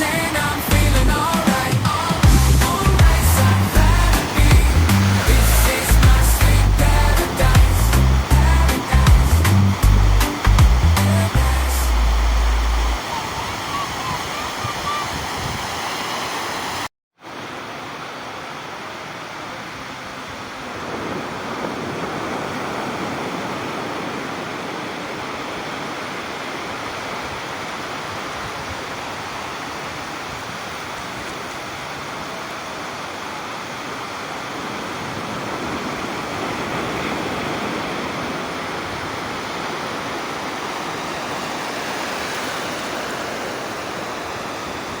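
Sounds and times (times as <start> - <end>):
ocean waves breaking: 0.0 - 45.0.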